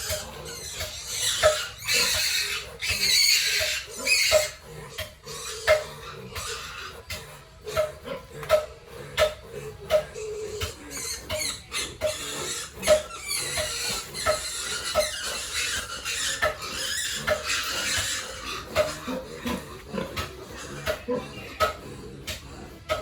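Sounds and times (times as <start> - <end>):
pigs squealing: 0.0 - 23.0.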